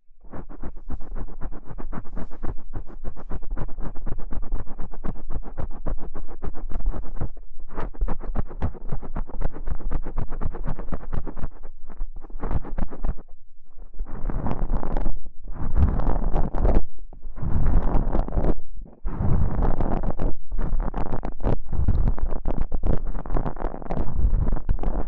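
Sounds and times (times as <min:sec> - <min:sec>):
rapid scratching: 0:00.2 - 0:25.0.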